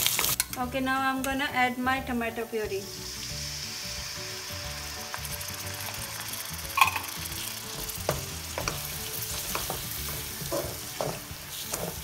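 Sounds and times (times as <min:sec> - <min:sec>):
onions sizzling in hot oil: 0:00.0 - 0:01.5, 0:02.6 - 0:12.0.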